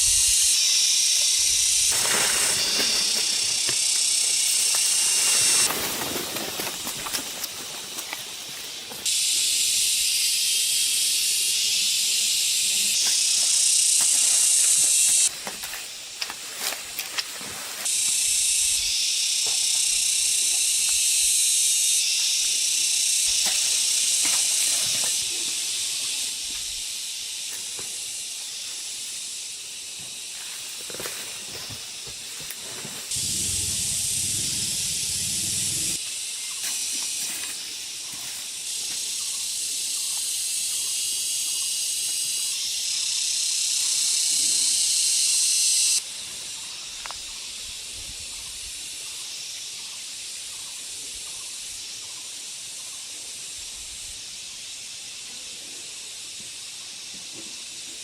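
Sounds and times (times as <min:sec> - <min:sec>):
steady high hiss: 0:00.0 - 0:30.8, 0:33.0 - 0:58.0.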